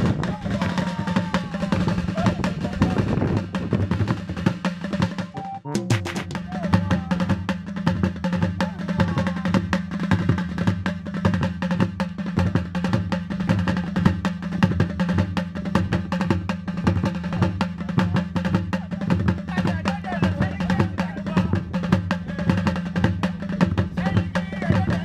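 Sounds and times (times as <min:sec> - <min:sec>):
deep booming drum pulse: 0:00.0 - 0:25.0
drum ensemble playing: 0:00.0 - 0:25.0.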